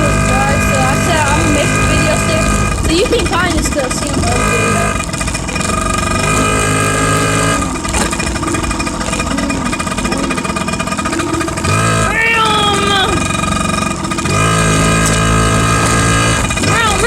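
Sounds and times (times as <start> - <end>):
small motorcycle running: 0.0 - 17.0
steady whine: 0.0 - 17.0.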